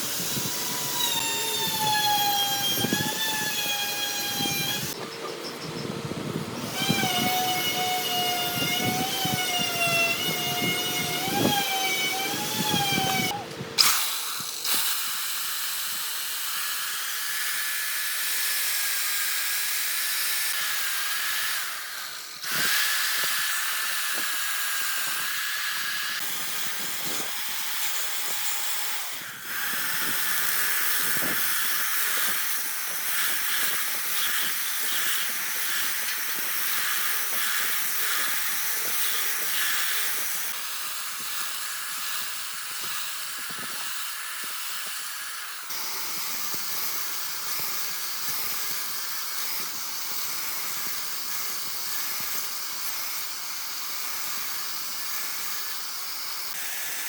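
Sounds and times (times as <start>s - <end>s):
chainsaw engine cutting: 0.0s - 5.0s, 6.4s - 18.3s, 20.5s - 51.4s
hissing power tool whining: 0.0s - 57.0s.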